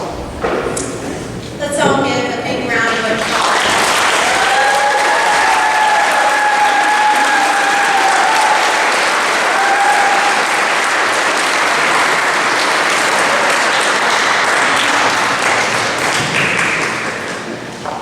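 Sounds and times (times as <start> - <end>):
audience applauding: 2.9 - 17.6.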